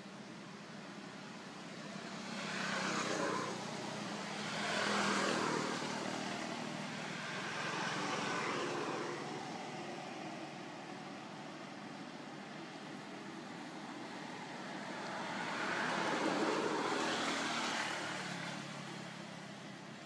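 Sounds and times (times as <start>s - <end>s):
vehicles passing by: 0.0s - 20.0s.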